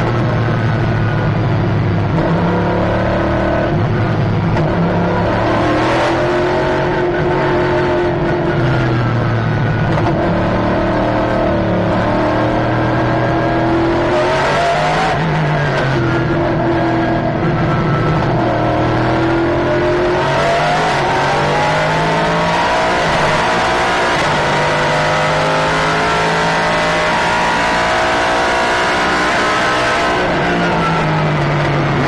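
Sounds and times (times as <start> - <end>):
race car engine accelerating: 0.0 - 32.0
wind and road noise: 0.0 - 32.0.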